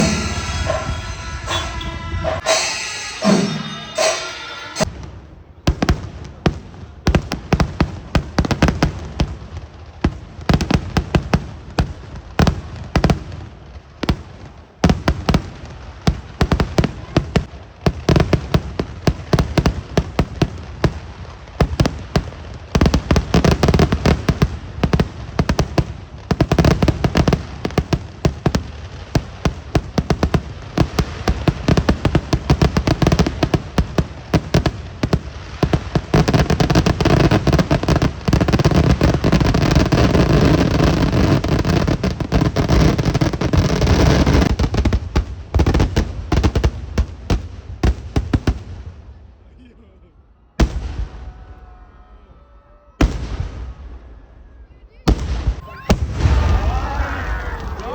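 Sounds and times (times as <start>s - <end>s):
fireworks bangs: 0.0s - 49.2s, 50.5s - 51.9s, 53.0s - 57.9s.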